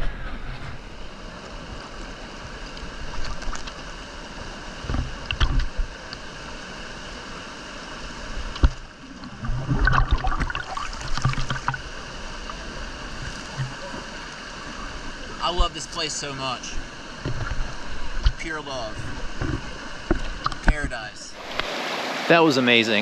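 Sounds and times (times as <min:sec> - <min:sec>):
water rushing: 0:00.0 - 0:23.0
water splashes: 0:00.8 - 0:23.0.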